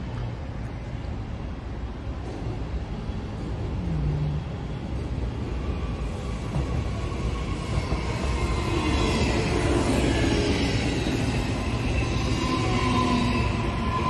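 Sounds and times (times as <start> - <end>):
train rumble: 0.0 - 14.0
train whine: 0.0 - 14.0.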